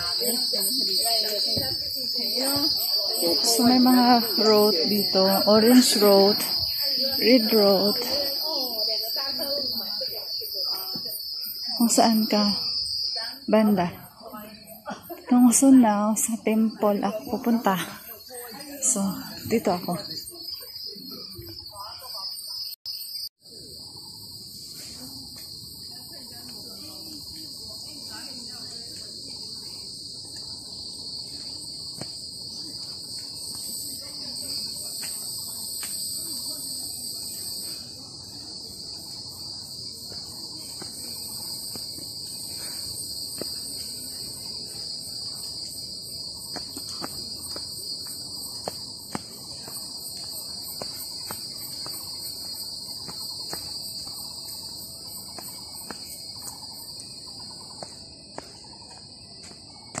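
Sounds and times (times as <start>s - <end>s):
fast pulsing insect trill: 0.0s - 60.0s
insect chorus buzzing: 0.0s - 60.0s.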